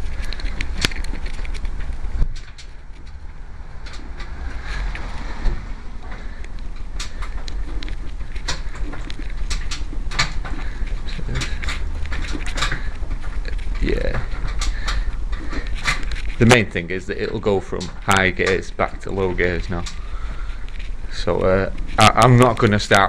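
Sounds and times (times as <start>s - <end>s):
sharp clicks: 0.0s - 23.0s.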